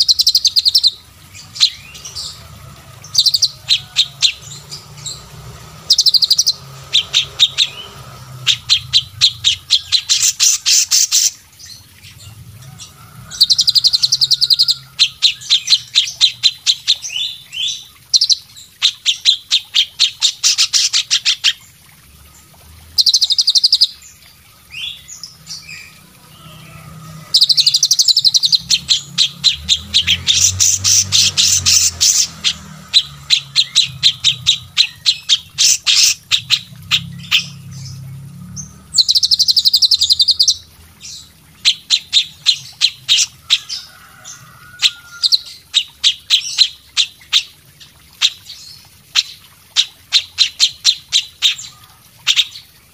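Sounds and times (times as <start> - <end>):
songbirds chirping trills: 0.0 - 52.9.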